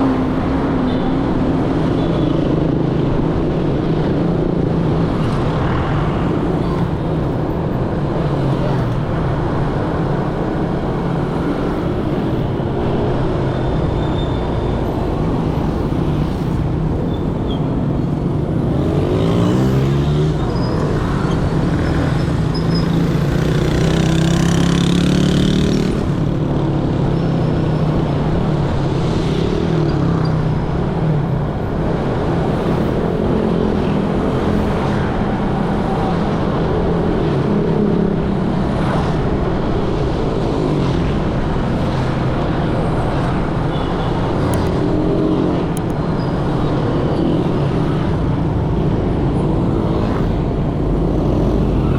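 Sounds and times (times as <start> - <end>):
motorcycle engines: 0.0 - 51.9
street traffic: 0.0 - 51.9.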